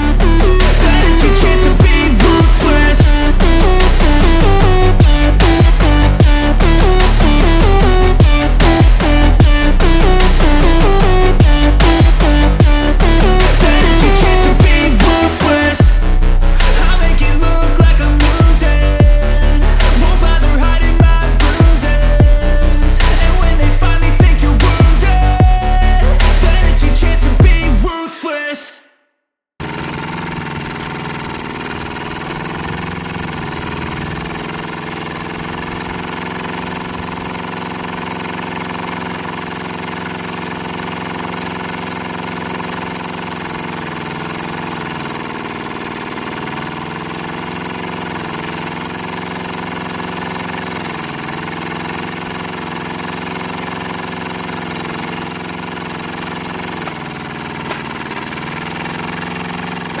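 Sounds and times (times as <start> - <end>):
diesel engine running: 0.0 - 27.9, 29.6 - 60.0.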